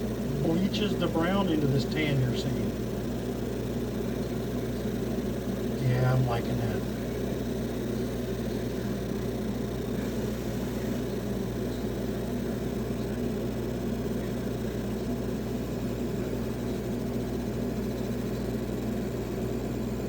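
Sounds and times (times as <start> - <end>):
laser engraver humming: 0.0 - 20.0.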